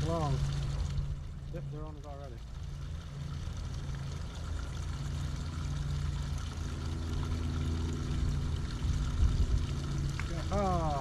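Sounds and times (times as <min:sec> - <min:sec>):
higher droning tone: 0:00.0 - 0:11.0
low mechanical hum: 0:00.0 - 0:11.0.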